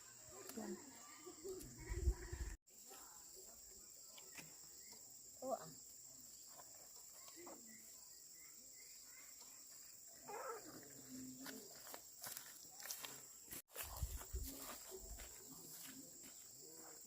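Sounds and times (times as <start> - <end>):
crickets and insects chirring: 0.0 - 17.0.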